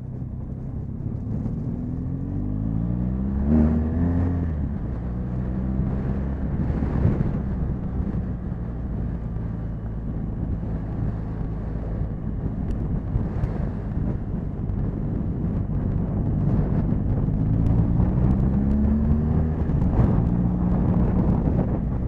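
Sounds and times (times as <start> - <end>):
motorcycle engine: 0.0 - 22.0
wind on microphone: 0.0 - 22.0.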